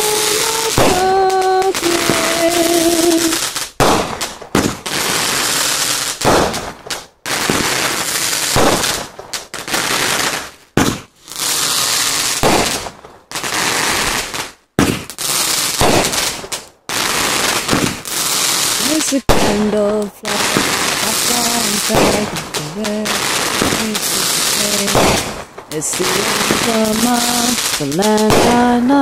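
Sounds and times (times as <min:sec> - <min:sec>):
fireworks crackling and popping: 0:00.0 - 0:29.0.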